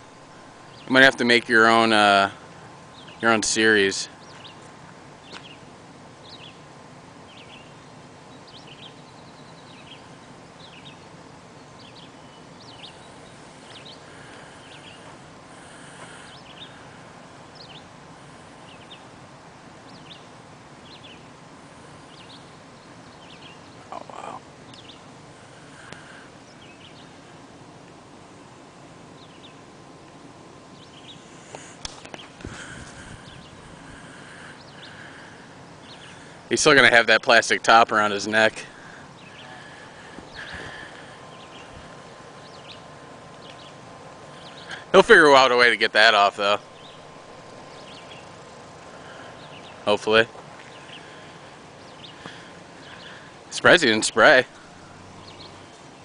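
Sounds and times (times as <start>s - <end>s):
small birds chirping: 0.0s - 56.0s
steady outdoor hiss: 0.0s - 56.0s.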